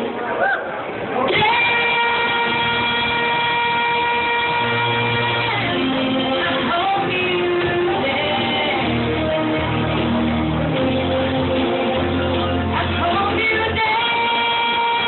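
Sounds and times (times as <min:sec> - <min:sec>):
amplified backing music: 0:01.3 - 0:15.0
woman singing into a microphone: 0:01.3 - 0:15.0.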